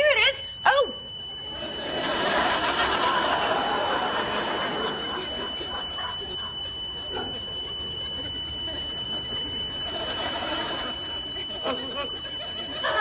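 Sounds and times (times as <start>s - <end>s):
smoke alarm high-pitched tone: 0.0s - 13.0s.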